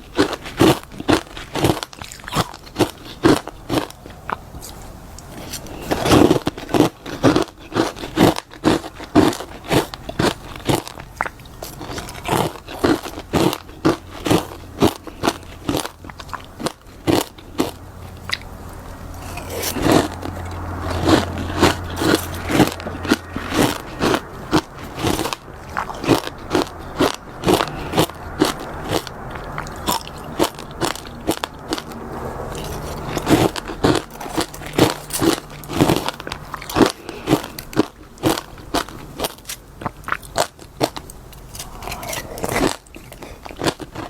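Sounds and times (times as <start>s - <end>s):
crunching frost being chewed: 0.0s - 44.0s.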